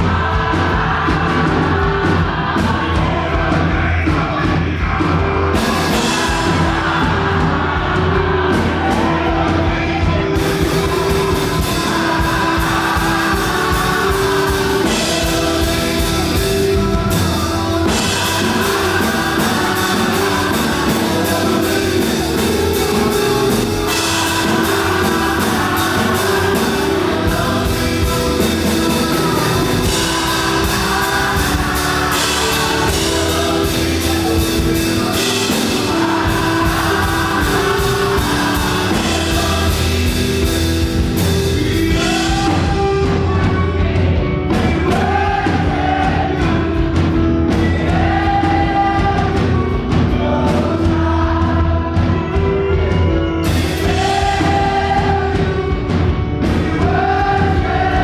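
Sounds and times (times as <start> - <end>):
drum kit beat: 0.0 - 58.0
guitar: 0.0 - 58.0
people singing: 0.0 - 58.0.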